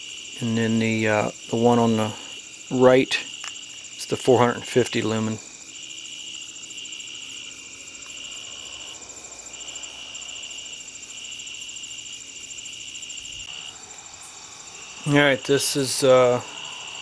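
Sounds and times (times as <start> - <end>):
cricket trilling: 0.0 - 17.0
crickets pulsing song: 0.0 - 17.0.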